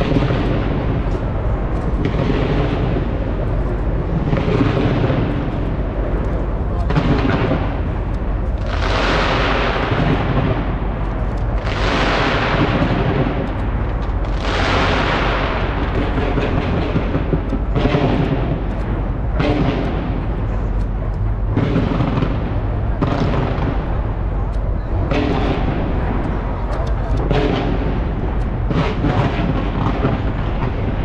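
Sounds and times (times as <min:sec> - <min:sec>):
fireworks bangs and crackling: 0:00.0 - 0:31.0
low rumble: 0:00.0 - 0:31.0.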